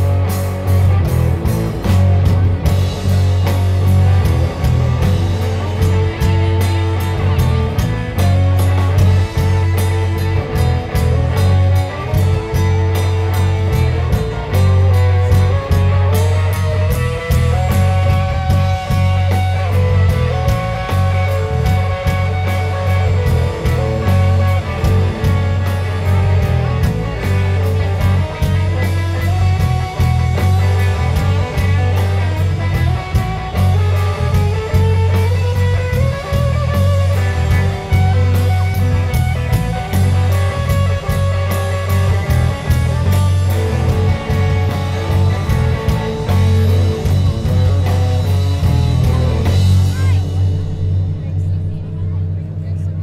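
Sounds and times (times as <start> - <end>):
bass guitar: 0.0 - 53.0
drum kit beat: 0.0 - 53.0
electric guitar melody: 0.0 - 53.0.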